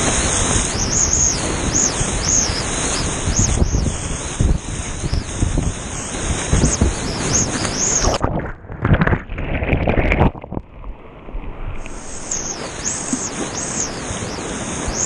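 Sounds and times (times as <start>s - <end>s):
whitewater rushing and splashing: 0.0s - 15.0s
wind buffeting microphone: 0.0s - 15.0s.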